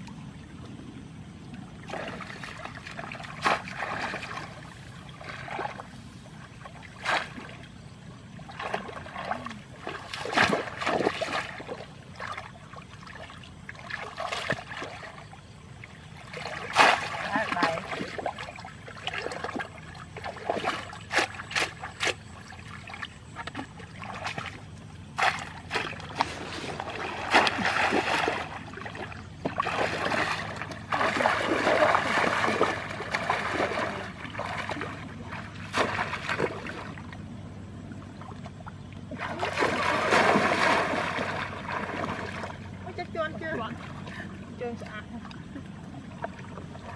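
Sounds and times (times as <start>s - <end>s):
muddy water splashing and sloshing: 0.0s - 46.9s.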